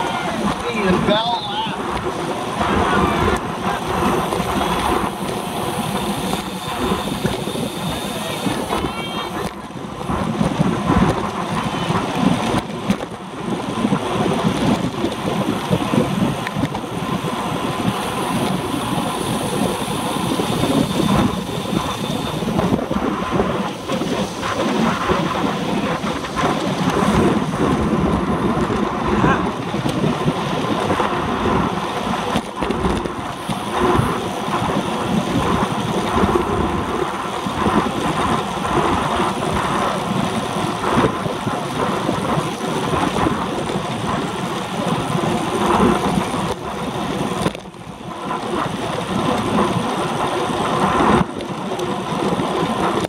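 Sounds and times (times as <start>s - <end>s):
tyre and road noise: 0.0s - 53.0s
wind buffeting microphone: 0.0s - 53.0s.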